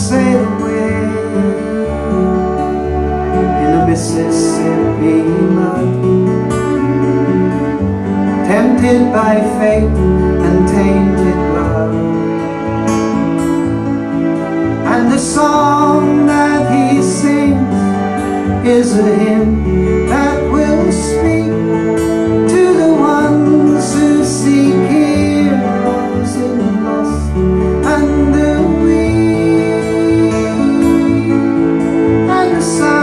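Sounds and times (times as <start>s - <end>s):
acoustic guitar: 0.0s - 33.0s
sliding lead melody: 0.0s - 33.0s.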